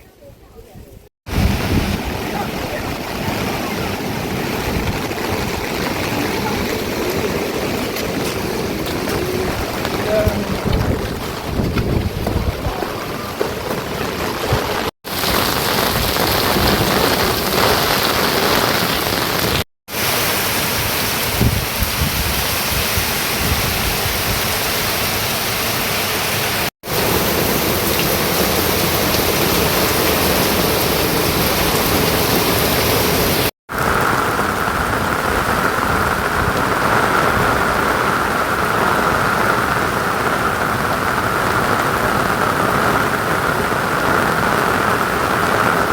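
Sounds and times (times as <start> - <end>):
heavy rainfall hiss: 1.3 - 45.9.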